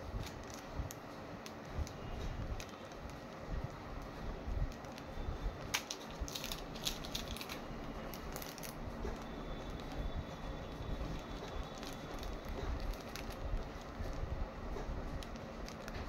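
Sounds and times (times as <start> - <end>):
plastic packet crackles: 0.1 - 3.4, 4.7 - 14.3, 15.0 - 16.0
plastic sleeves crinkling: 0.1 - 16.0.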